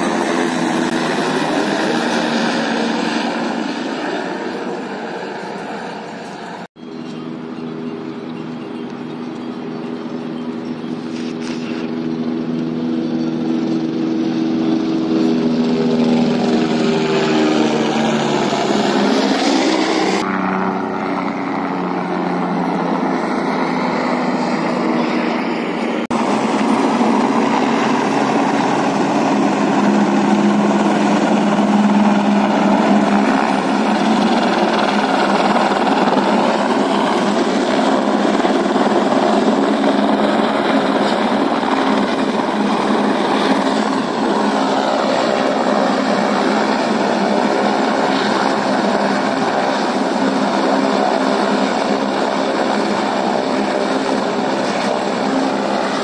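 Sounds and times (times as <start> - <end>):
helicopter engine and rotors: 0.0 - 56.0.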